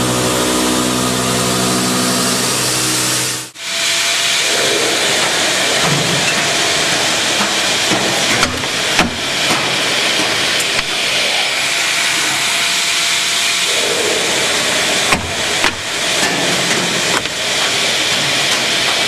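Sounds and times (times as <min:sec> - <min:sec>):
loud hissing: 0:00.0 - 0:18.9.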